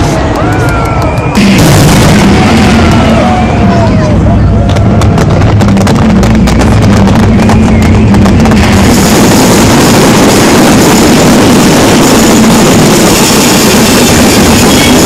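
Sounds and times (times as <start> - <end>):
fireworks barrage crackling: 0.0 - 15.0.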